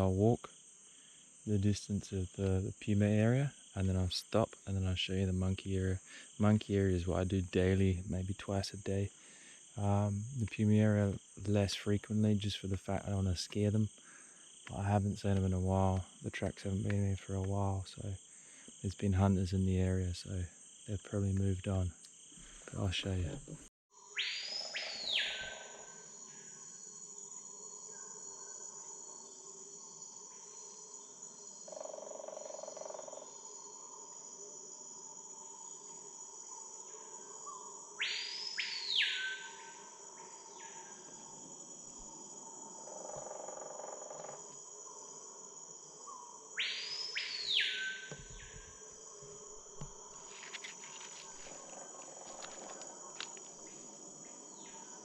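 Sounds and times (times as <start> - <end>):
insect chorus drone: 0.0 - 55.0
loud insect call: 0.0 - 55.0.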